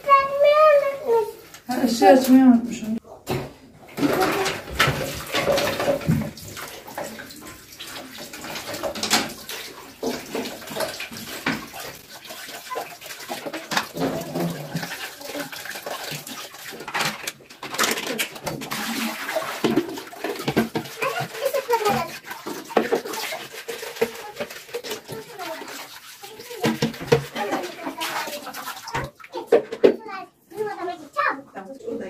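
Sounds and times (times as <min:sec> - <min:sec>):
scrubbing plastic items: 0:00.0 - 0:31.7
tap water running into basin: 0:00.0 - 0:32.0
plastic clattering against basin: 0:00.1 - 0:31.0.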